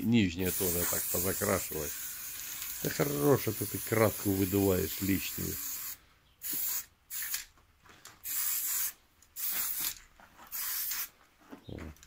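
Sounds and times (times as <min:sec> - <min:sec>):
spray paint can hissing: 0:00.4 - 0:07.5, 0:08.2 - 0:11.1.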